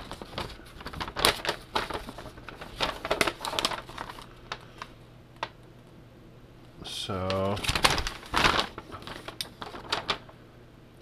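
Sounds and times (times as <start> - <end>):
paper rustling and crinkling: 0.0 - 5.6, 7.1 - 10.4.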